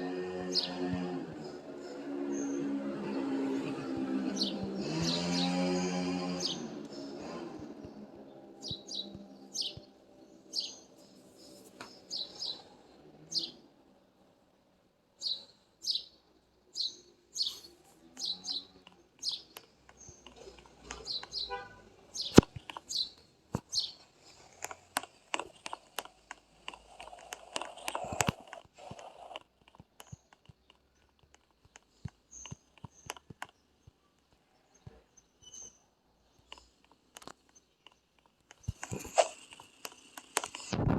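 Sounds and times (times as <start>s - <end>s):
bird chirping: 0.0s - 13.9s, 15.1s - 40.7s.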